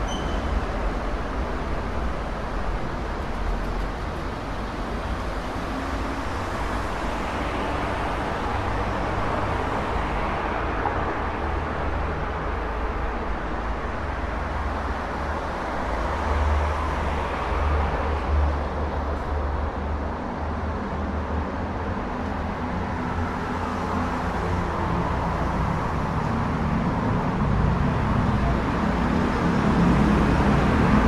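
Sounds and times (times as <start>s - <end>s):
passing road traffic: 0.0s - 31.0s.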